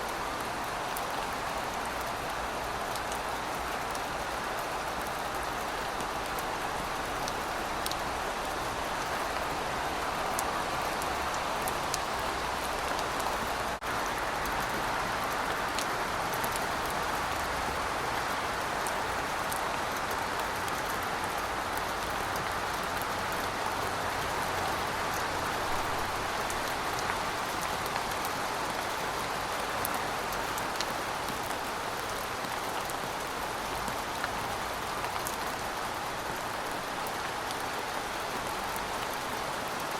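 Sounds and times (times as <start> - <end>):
rain hissing on pavement: 0.0 - 39.9.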